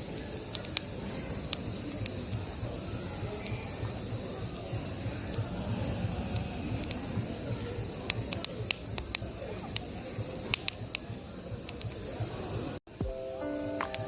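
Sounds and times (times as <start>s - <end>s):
campfire crackling: 0.0s - 12.8s
cicadas droning: 0.0s - 14.0s.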